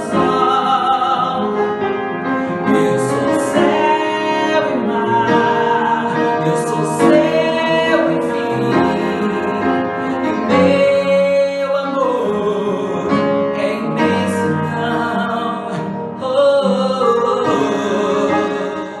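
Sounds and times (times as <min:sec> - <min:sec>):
guitar accompaniment: 0:00.0 - 0:19.0
person singing a ballad: 0:00.0 - 0:19.0.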